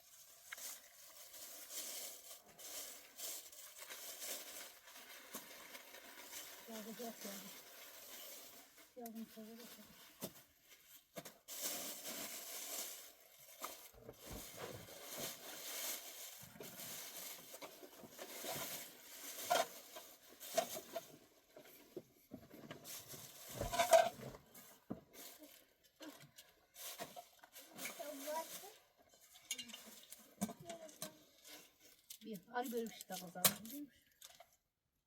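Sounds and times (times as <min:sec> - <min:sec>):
rustling and scraping: 0:00.0 - 0:34.5.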